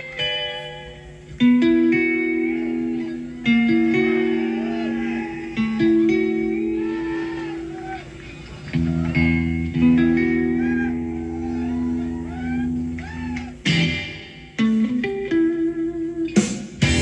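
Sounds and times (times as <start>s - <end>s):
blues-rock electric guitar: 0.0s - 17.0s.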